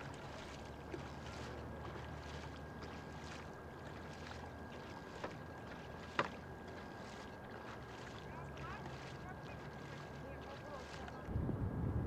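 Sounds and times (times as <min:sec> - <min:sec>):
kayak paddles splashing: 0:00.0 - 0:11.3.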